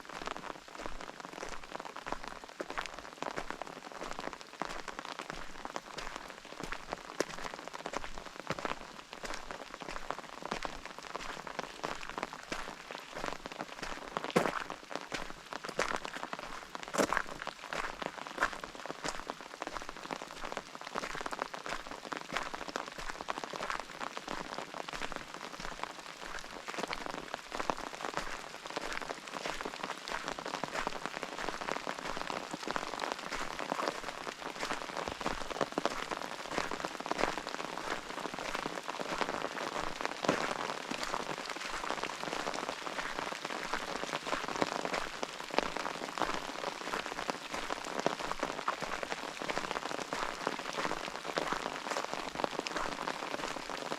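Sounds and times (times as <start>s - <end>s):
raindrops ticking close by: 0.0s - 53.9s
steady rain falling: 0.0s - 53.9s.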